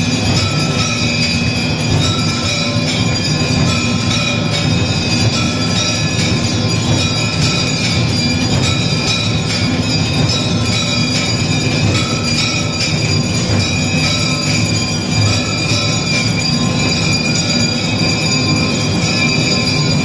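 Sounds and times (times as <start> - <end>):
bells and gongs ringing: 0.0 - 20.0.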